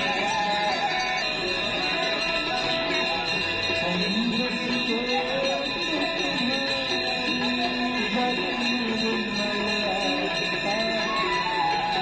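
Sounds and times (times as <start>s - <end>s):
devotional chant with instruments: 0.0s - 12.0s.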